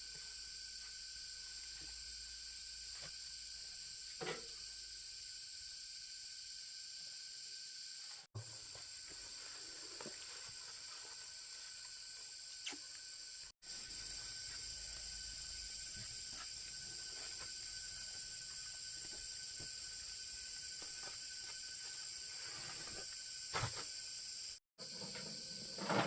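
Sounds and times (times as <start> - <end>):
high-pitched hiss: 0.0 - 26.0.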